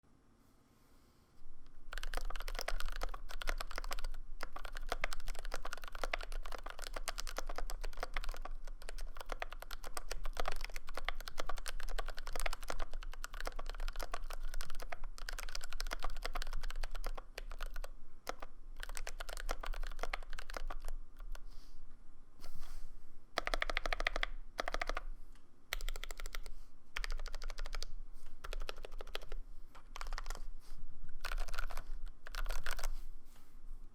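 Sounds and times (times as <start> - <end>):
mechanical keyboard typing: 1.9 - 21.4, 23.4 - 25.1, 25.7 - 30.5, 31.2 - 33.0.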